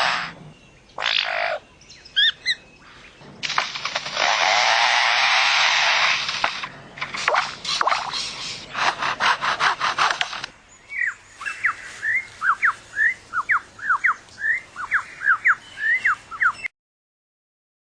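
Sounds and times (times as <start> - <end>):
lyrebird rasping chainsaw mimicry: 0.0 - 16.7.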